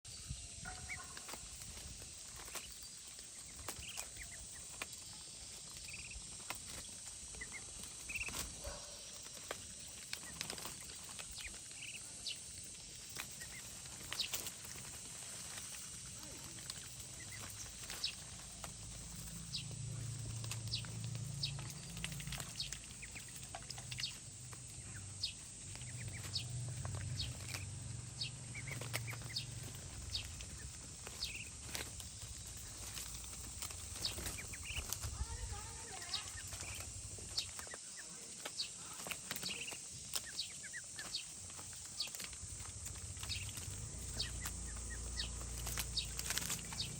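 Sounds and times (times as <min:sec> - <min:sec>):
duck bills pecking and snapping: 0:00.6 - 0:46.9.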